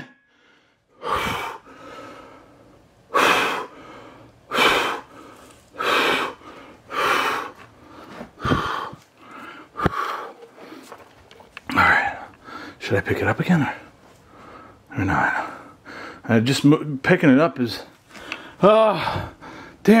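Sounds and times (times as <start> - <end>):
man breathing heavily: 0.0 - 11.1, 11.7 - 12.8, 13.6 - 16.4, 18.0 - 19.9.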